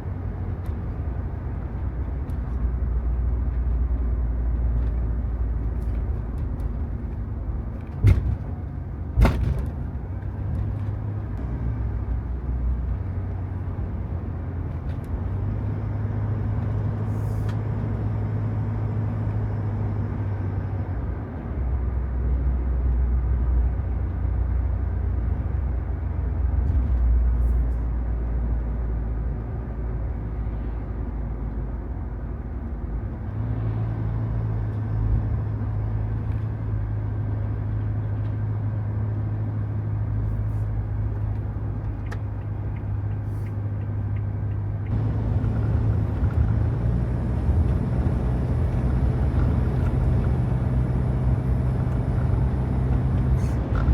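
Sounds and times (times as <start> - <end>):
van engine and road rumble: 0.0 - 53.9.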